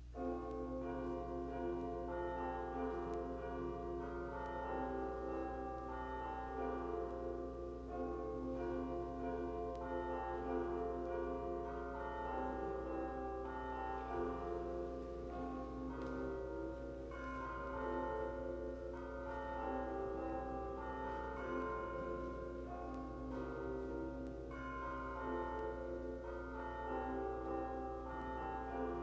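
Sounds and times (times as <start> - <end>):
bells ringing a tune: 0.0 - 29.0.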